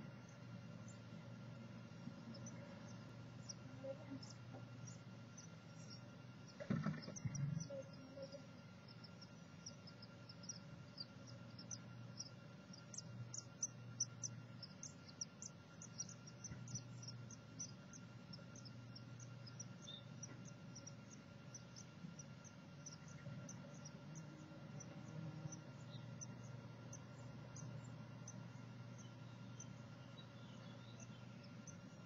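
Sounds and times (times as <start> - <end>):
nestlings peeping: 0.0 - 32.0
steady low hum: 0.0 - 32.0.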